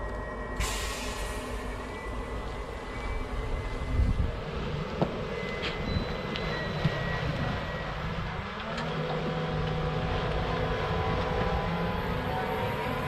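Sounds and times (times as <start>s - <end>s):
electric truck hum and rumble: 0.0s - 13.0s.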